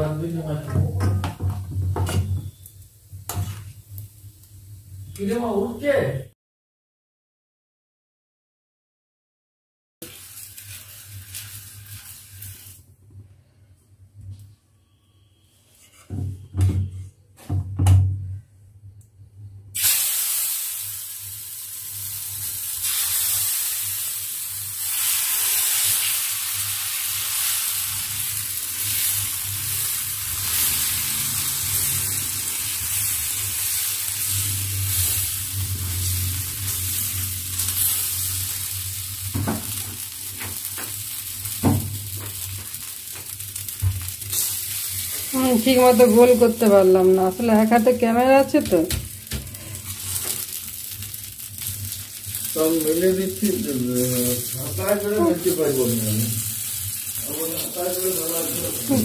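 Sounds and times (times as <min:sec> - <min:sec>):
batter sizzling on griddle: 0:01.3 - 0:05.8, 0:10.0 - 0:13.6, 0:19.4 - 0:59.0.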